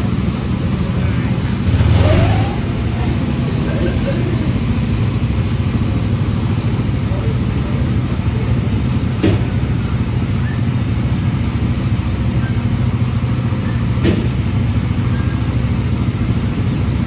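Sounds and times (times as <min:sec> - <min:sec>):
low motor hum: 0:00.0 - 0:16.8.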